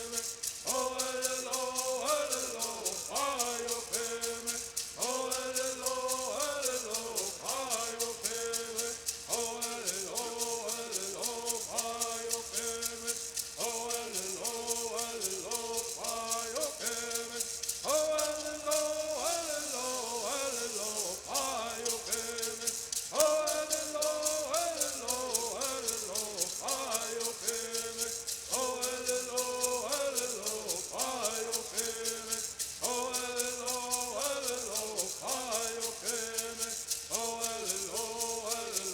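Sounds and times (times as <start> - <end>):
gourd rattles shaking: 0.0 - 38.9
men singing together: 0.0 - 38.9.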